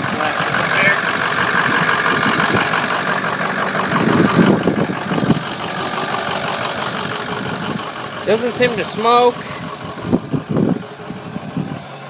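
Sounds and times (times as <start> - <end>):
diesel engine idling: 0.0 - 12.0
ticking in engine: 0.0 - 12.0.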